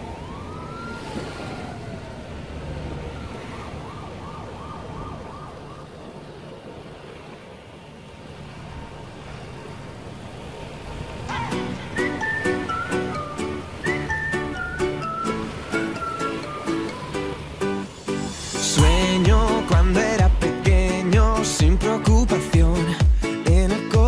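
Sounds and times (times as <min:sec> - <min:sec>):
water rushing along hull: 0:00.0 - 0:24.0.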